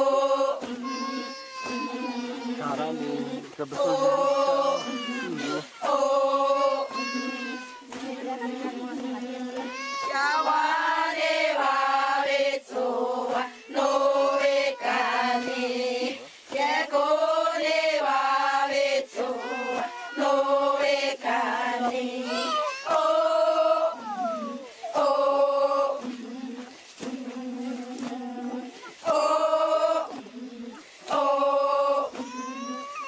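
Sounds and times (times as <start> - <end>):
women chanting in unison: 0.0 - 33.0.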